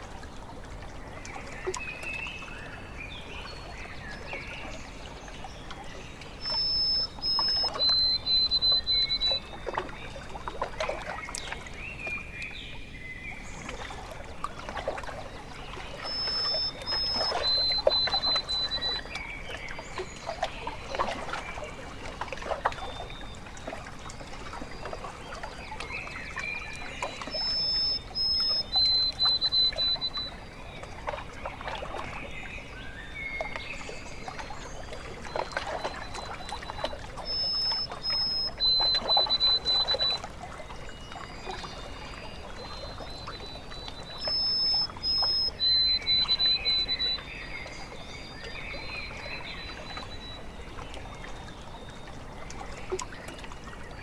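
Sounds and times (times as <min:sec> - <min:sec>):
small waves lapping: 0:00.0 - 0:54.0
songbird singing: 0:00.0 - 0:54.0.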